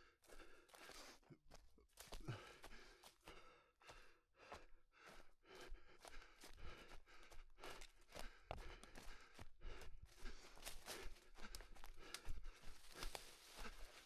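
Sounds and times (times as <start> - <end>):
runner panting: 0.0 - 14.0.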